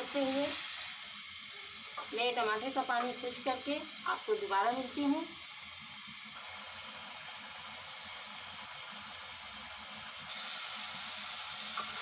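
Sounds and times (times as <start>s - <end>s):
meat sauce sizzling and bubbling: 0.0s - 12.0s.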